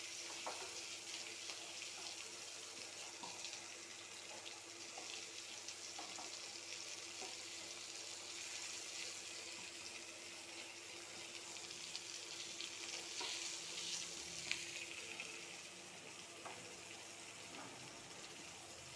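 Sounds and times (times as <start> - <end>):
vegetables sizzling in oil: 0.0 - 18.9.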